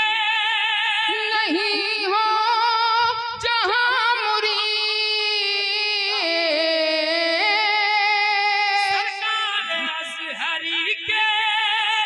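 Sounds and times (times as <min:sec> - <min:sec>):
man singing over pa: 0:00.0 - 0:12.0.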